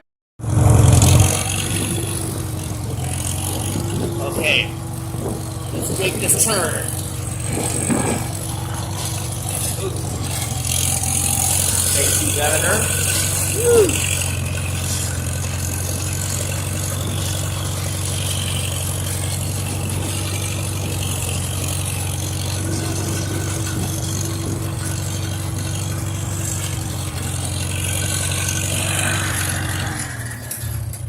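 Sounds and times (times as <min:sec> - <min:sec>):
tractor engine running: 0:00.4 - 0:31.0.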